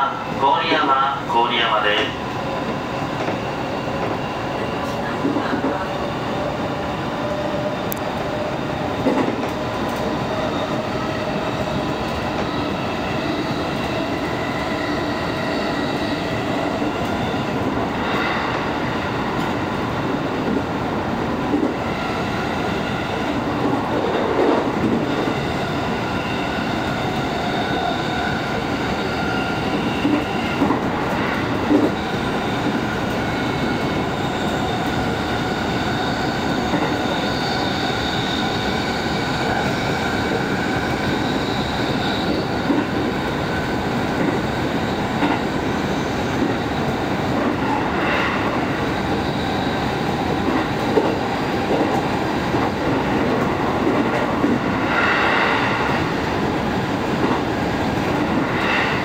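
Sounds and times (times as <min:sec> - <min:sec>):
train rolling noise: 0:00.0 - 0:59.0.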